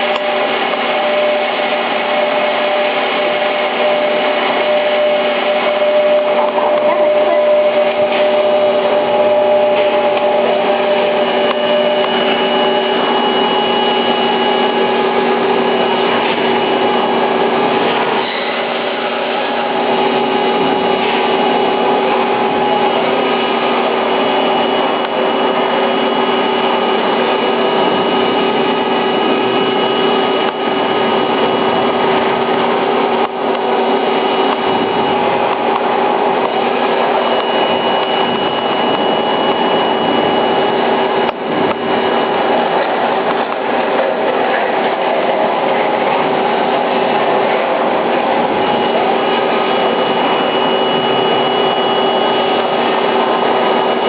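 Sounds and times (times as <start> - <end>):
lathe cutting metal: 0.0 - 54.0.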